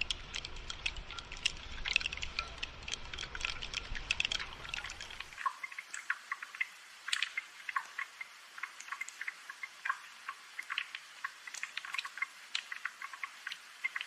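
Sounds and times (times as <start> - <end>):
raindrops dripping: 0.0 - 14.0.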